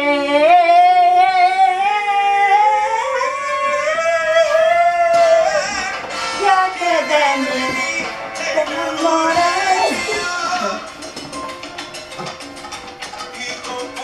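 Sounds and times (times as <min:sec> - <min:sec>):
person singing dance song: 0:00.0 - 0:14.0.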